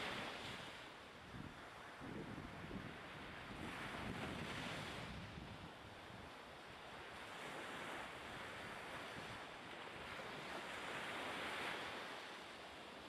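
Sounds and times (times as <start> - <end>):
waves: 0.0 - 13.0
wind at sea: 0.0 - 13.0.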